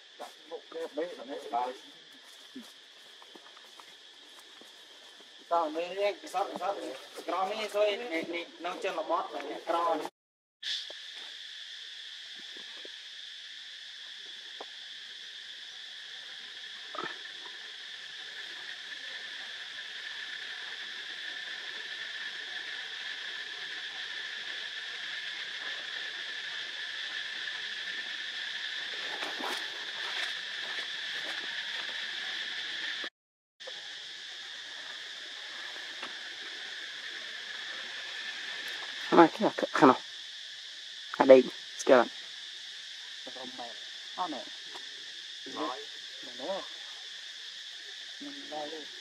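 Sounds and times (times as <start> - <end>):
insect chorus drone: 0.0 - 49.0.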